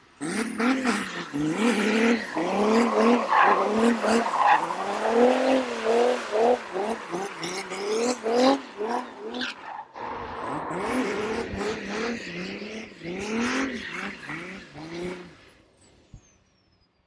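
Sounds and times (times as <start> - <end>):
car engine revving: 0.2 - 15.6
tyres skidding: 0.5 - 15.6.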